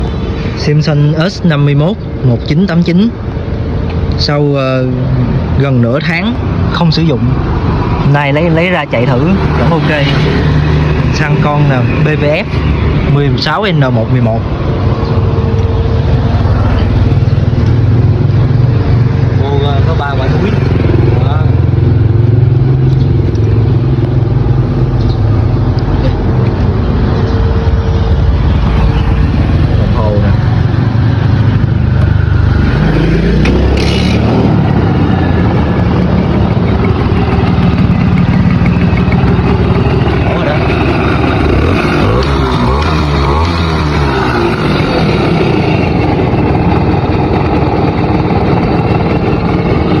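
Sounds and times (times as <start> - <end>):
two-stroke engine running: 7.4 - 50.0.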